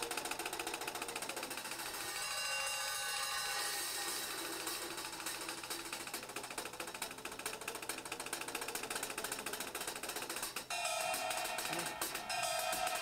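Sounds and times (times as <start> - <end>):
fast drum stick strokes: 0.0 - 13.0.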